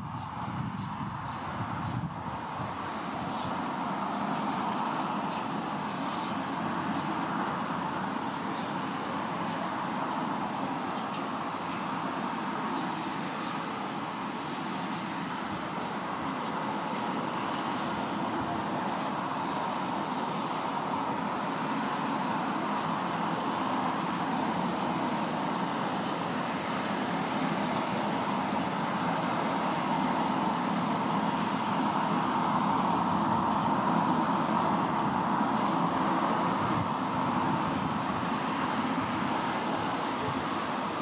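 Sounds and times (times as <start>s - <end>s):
distant engine noise: 0.0s - 41.0s.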